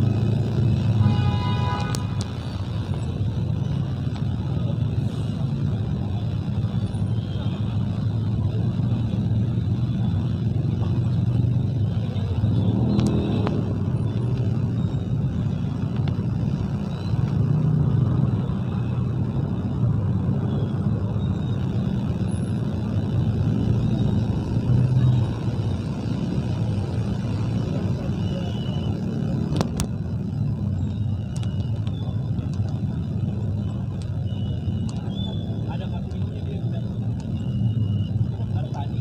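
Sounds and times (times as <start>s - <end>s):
car and motorbike engines: 0.0s - 39.0s.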